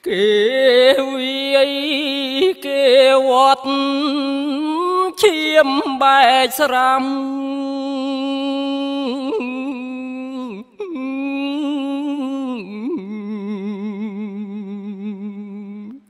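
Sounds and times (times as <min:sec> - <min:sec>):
man chanting: 0:00.0 - 0:14.2.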